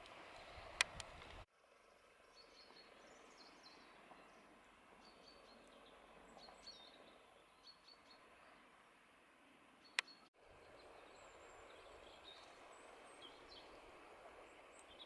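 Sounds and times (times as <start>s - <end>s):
songbird chirps: 0.0s - 8.8s, 9.7s - 15.0s
soft outdoor hiss: 0.0s - 15.0s.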